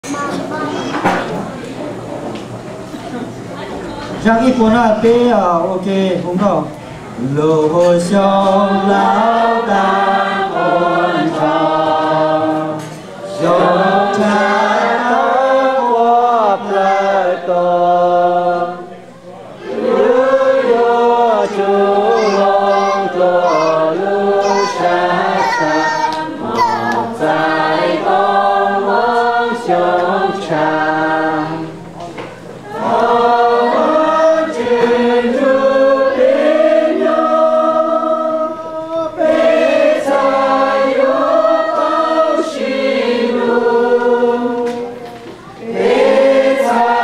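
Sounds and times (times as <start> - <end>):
people singing a hymn in unison: 7.1 - 47.0.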